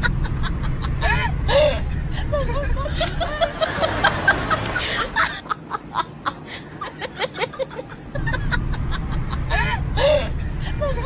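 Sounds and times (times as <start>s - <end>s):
snickering laughter: 0.0s - 11.0s.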